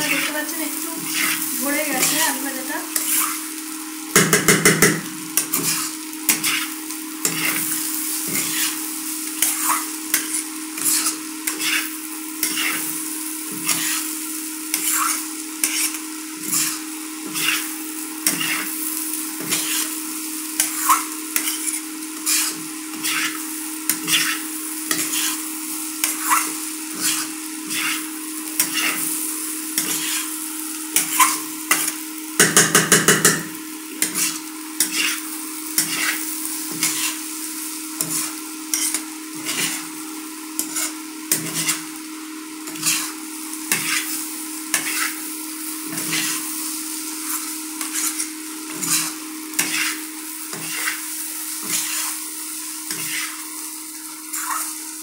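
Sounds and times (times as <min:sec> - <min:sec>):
spatula scraping pan: 0:00.0 - 0:03.6, 0:04.2 - 0:37.4, 0:38.0 - 0:40.0, 0:40.6 - 0:42.0, 0:42.6 - 0:54.8
potato strips sizzling in oil: 0:00.0 - 0:55.0.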